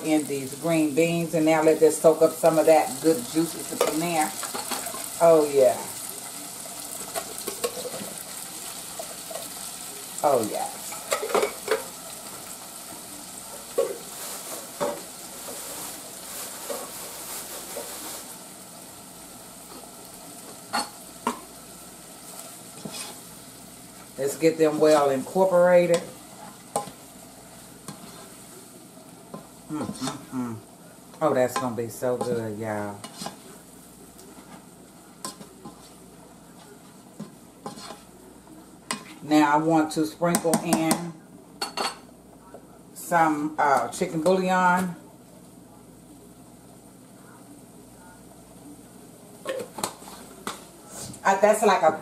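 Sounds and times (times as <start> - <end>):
green beans sizzling in saucepan: 0.0 - 52.0.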